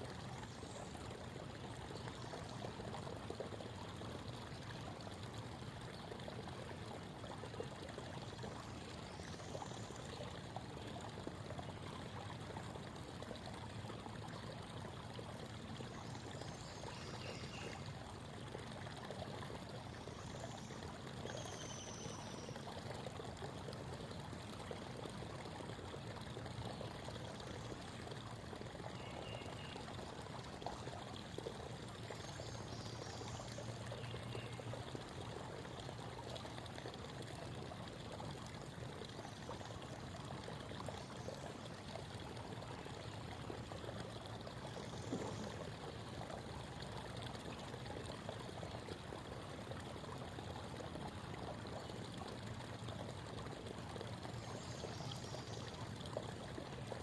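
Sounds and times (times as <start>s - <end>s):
creek babbling over stones: 0.0s - 57.0s.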